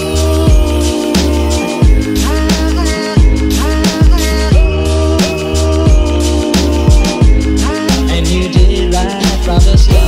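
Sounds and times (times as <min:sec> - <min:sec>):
music with deep bass beat: 0:00.0 - 0:10.0.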